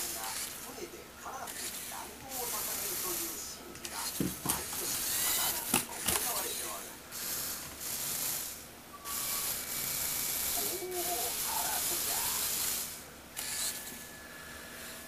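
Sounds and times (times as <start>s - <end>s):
toy motor and gears whirring: 0.0s - 15.0s.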